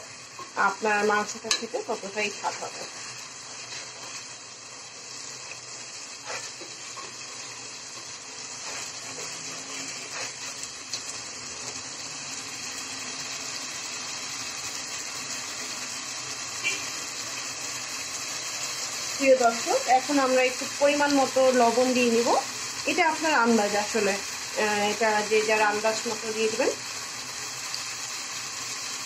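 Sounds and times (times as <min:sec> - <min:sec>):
paste sizzling in oil: 0:00.0 - 0:29.0.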